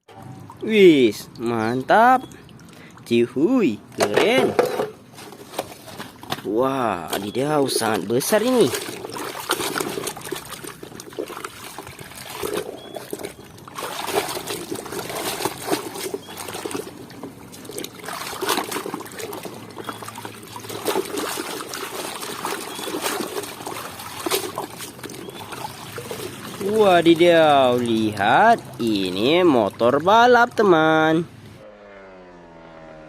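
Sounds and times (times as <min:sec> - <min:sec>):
water trickling and splashing: 0:00.0 - 0:31.2.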